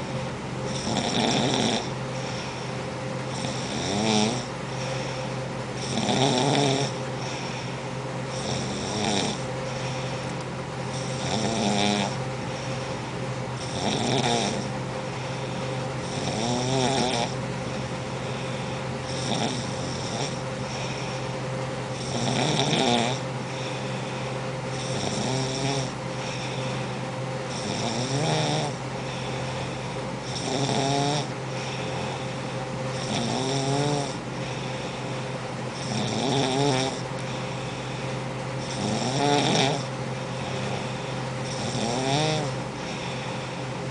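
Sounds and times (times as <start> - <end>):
woman snoring: 0.7 - 2.4, 3.3 - 5.2, 5.8 - 10.3, 10.9 - 12.9, 13.6 - 17.4, 18.1 - 21.3, 22.0 - 32.4, 33.0 - 35.2, 35.8 - 37.8, 38.6 - 43.6.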